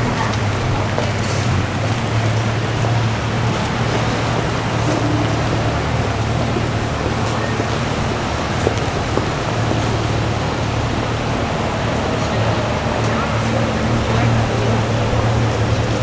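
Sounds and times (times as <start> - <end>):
low engine hum: 0.0 - 16.0
traffic noise: 0.0 - 16.0.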